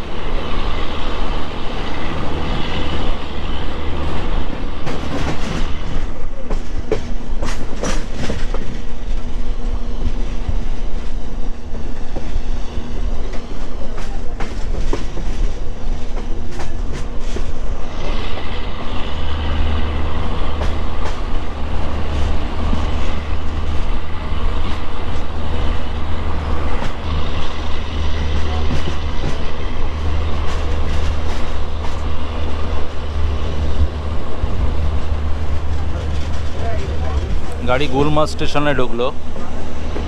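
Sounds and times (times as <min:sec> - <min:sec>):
train rumbling on track: 0:00.0 - 0:40.0.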